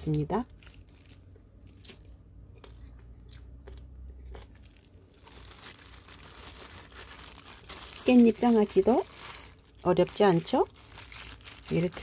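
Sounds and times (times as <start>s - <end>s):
plastic glove crinkling: 0.0s - 2.2s, 4.5s - 12.0s.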